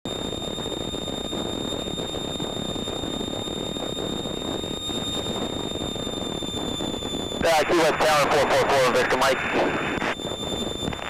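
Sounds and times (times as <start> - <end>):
aircraft engine and propeller: 0.1 - 11.0
high-pitched whine: 0.1 - 11.0.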